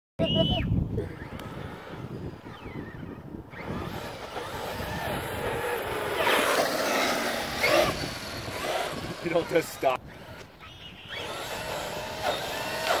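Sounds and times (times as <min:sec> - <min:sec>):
rc truck electric motor: 0:01.0 - 0:13.0.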